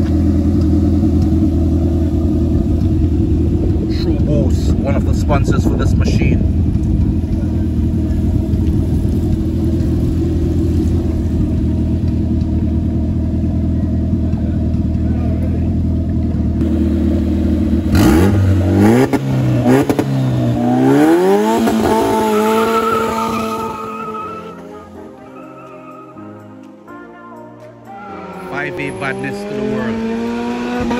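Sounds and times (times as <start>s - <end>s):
car engine idling and revving: 0.0s - 26.8s, 27.8s - 30.9s.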